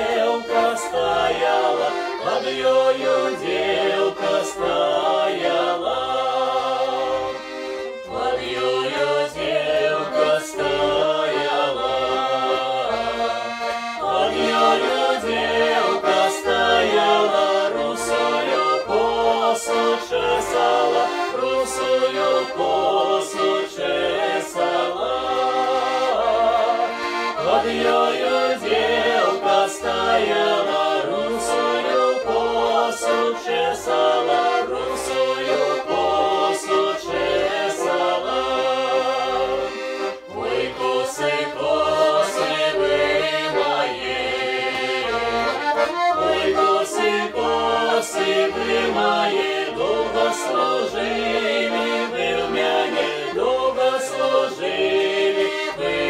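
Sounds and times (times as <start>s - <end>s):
button accordion: 0.0s - 56.0s
group singing in harmony: 0.0s - 56.0s.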